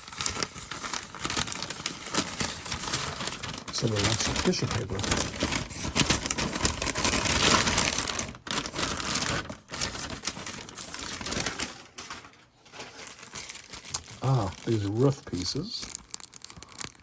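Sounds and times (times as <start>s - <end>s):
paper and plastic crinkling: 0.0s - 17.0s.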